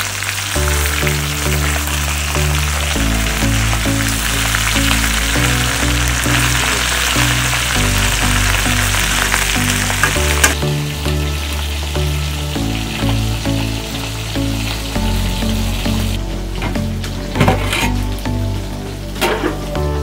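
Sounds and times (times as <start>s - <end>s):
food sizzling in a pan: 0.0s - 16.2s
background music: 0.0s - 20.0s.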